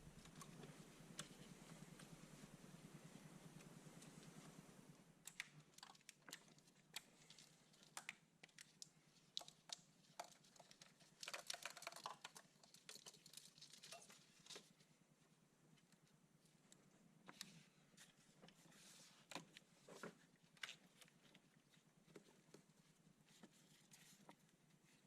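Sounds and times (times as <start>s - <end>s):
faint clicks and light taps: 0.0s - 14.9s, 15.7s - 25.0s.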